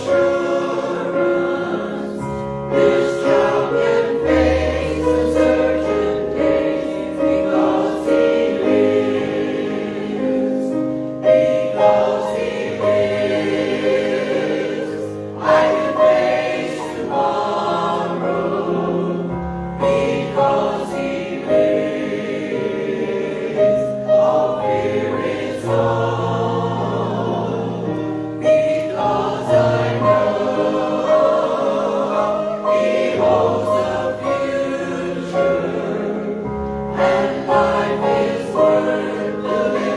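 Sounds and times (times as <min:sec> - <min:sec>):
group singing a hymn: 0:00.0 - 0:39.9
sustained chordal accompaniment: 0:00.0 - 0:39.9.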